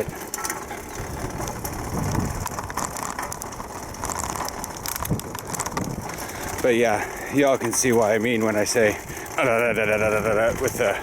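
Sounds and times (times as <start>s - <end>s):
bicycle rattling over cobblestones: 0.0s - 11.0s.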